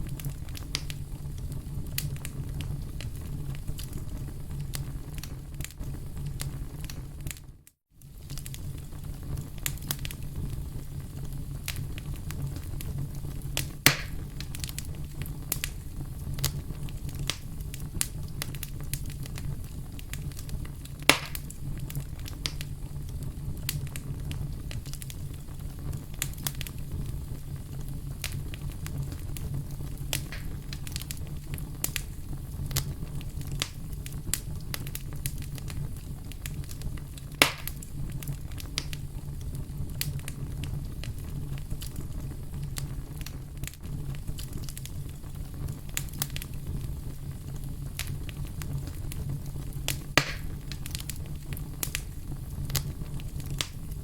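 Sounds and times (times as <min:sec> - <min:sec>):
fire crackling: 0:00.0 - 0:54.0
loud fire pops: 0:00.0 - 0:54.0
low fire rumble: 0:00.0 - 0:54.0.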